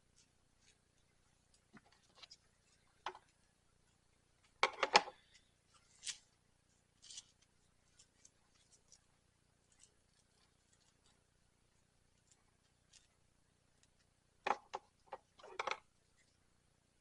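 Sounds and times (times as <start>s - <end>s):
soft rustling: 0.0s - 14.2s, 14.9s - 16.6s.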